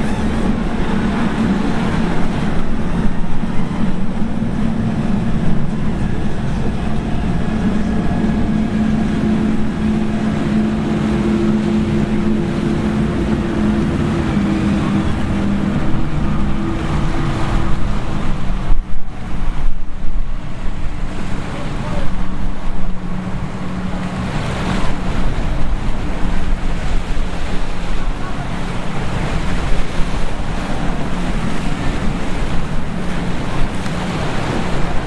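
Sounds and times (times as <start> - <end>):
boat engines droning: 0.0 - 35.0
wind gusts buffeting microphone: 0.0 - 35.0.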